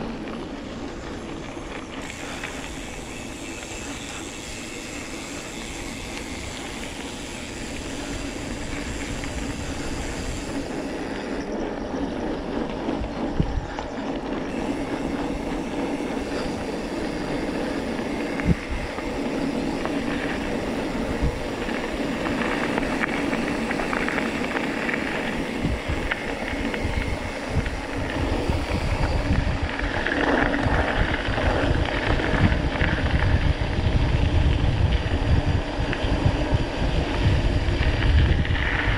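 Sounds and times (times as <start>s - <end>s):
bike tyres on gravel: 0.0s - 38.9s.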